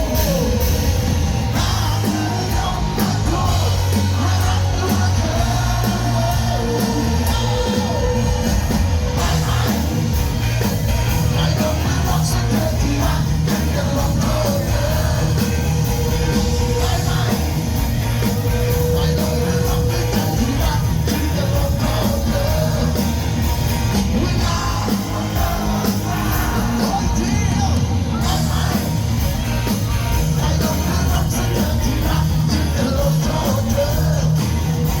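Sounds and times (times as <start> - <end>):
loud rock band music: 0.0 - 35.0.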